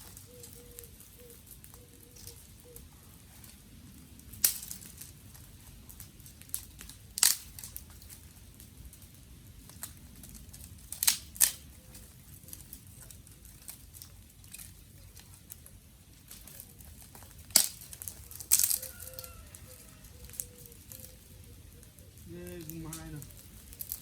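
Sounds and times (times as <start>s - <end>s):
dry twigs snapping: 0.0s - 24.0s
light crackling: 0.0s - 24.0s.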